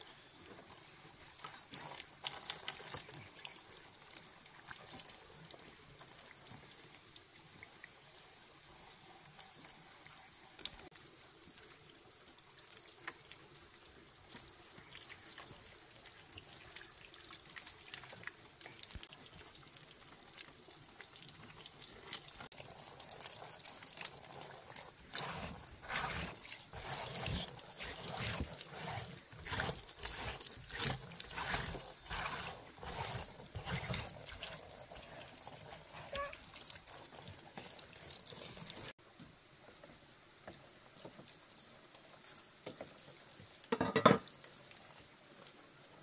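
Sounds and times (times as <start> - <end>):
water trickling and splashing: 0.0 - 46.0.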